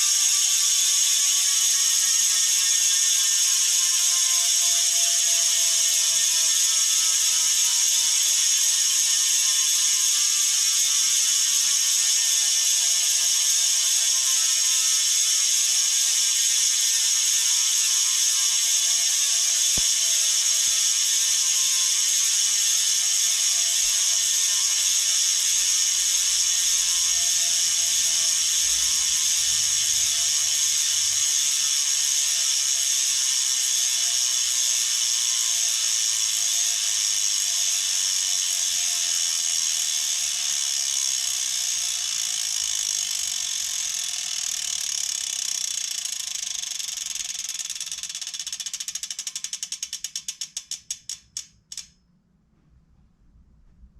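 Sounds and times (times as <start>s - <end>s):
bicycle freehub ratchet buzzing: 0.0s - 52.0s.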